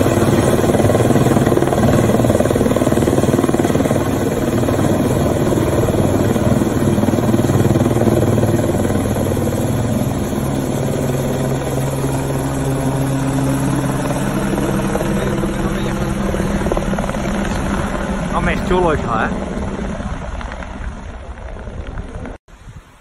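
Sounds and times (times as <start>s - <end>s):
helicopter overhead: 0.0s - 22.4s.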